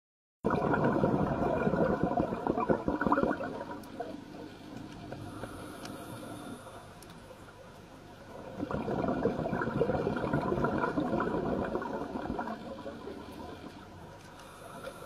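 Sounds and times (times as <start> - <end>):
underwater bubbling and gurgling: 0.5 - 15.0.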